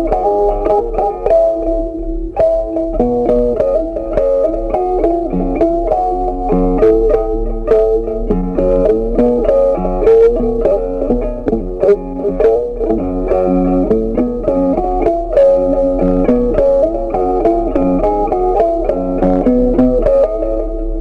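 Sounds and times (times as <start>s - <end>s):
plucked guitar melody: 0.0s - 21.0s.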